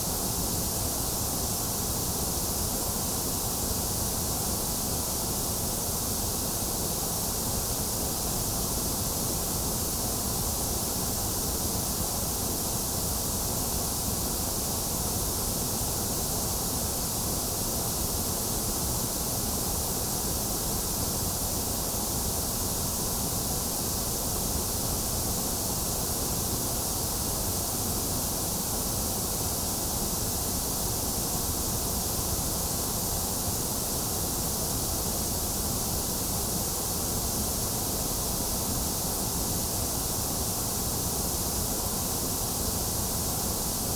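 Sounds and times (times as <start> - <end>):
white noise hiss: 0.0 - 43.9.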